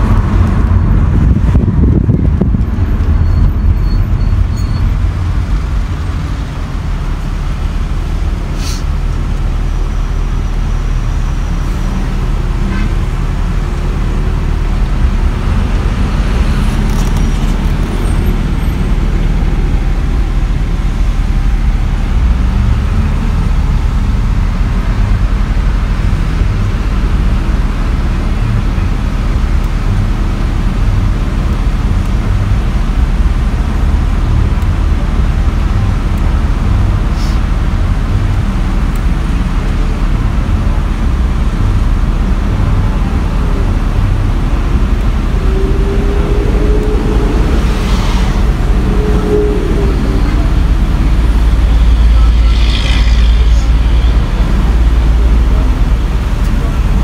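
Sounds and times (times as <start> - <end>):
traffic rumble inside car: 0.0 - 57.0.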